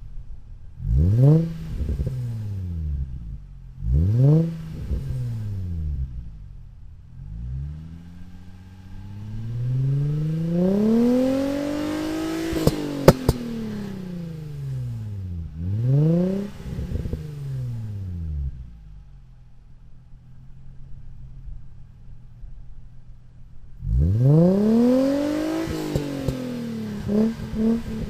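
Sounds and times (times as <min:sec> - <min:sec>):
exhaust cracks: 0:00.1 - 0:28.0
car engine revving: 0:00.6 - 0:28.0.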